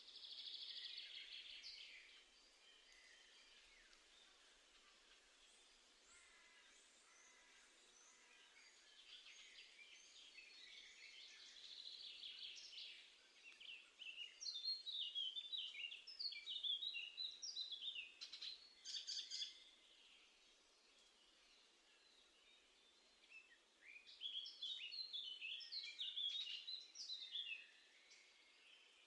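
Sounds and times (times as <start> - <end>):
songbirds singing and chirping: 0.0 - 29.0.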